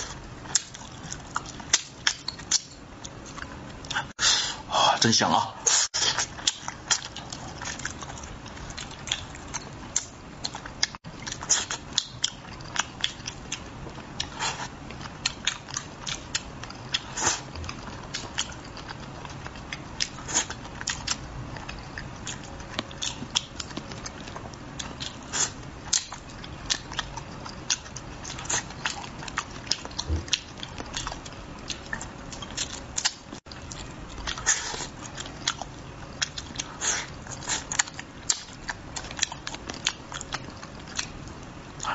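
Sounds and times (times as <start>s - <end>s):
person chewing and lip-smacking: 0.0s - 4.1s, 6.0s - 41.9s.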